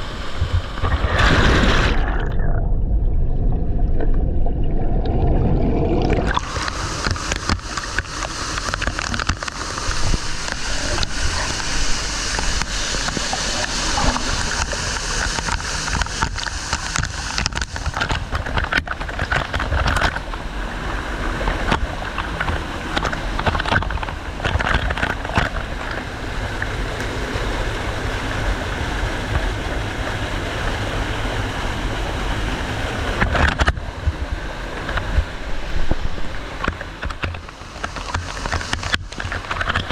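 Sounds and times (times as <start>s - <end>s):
waterfall rushing and splashing: 6.1s - 39.9s.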